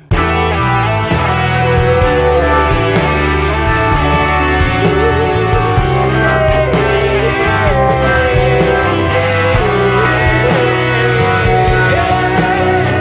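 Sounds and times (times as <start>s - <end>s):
bending lead melody: 0.0s - 13.0s
rock band playing live: 0.0s - 13.0s.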